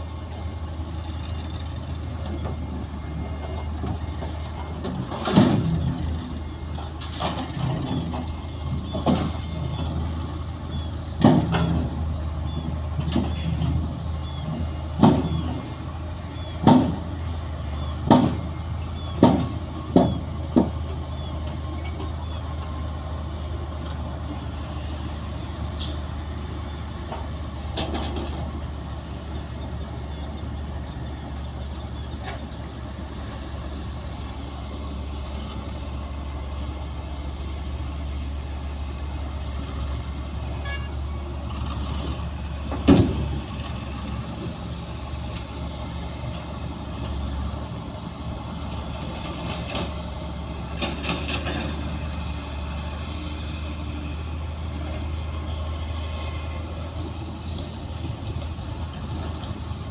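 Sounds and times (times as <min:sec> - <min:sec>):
heavy diesel machinery droning: 0:00.0 - 0:59.9.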